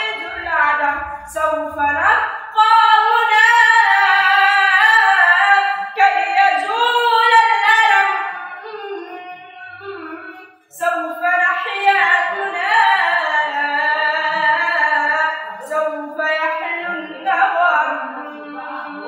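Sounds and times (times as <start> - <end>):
boy singing: 0.0 - 19.0.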